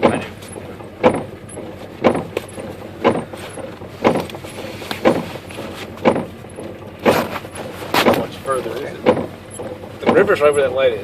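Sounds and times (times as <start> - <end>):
car hum: 0.0 - 11.0
short thumps: 0.0 - 11.0.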